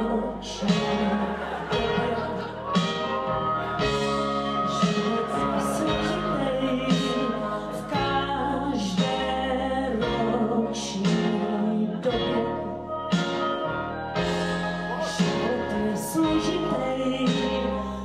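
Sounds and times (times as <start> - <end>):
woman singing into a microphone: 0.0 - 13.6, 14.2 - 18.0
instrumental accompaniment: 0.0 - 18.0.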